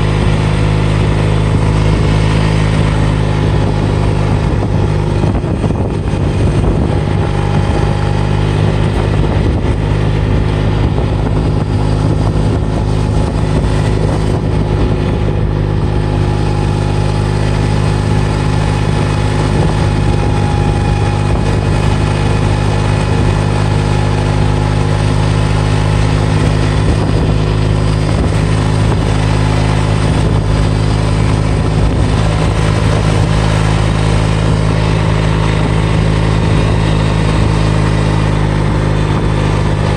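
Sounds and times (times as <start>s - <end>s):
engine running steadily: 0.0s - 39.9s
tyres rumbling on gravel road: 0.0s - 39.9s.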